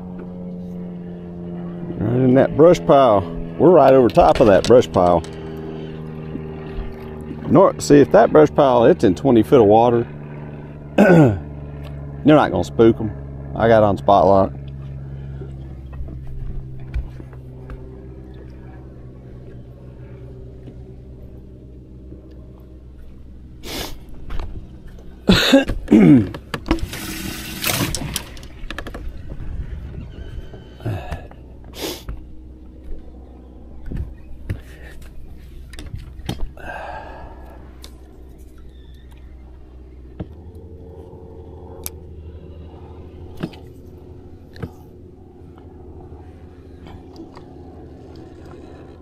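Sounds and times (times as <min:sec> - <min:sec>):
electric motor humming: 0:00.0 - 0:09.0, 0:13.1 - 0:49.0.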